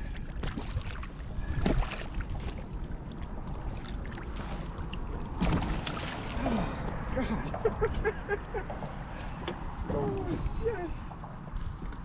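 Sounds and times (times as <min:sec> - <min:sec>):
water splashing against a hull: 0:00.0 - 0:12.0
wind rumble on microphone: 0:00.0 - 0:12.0.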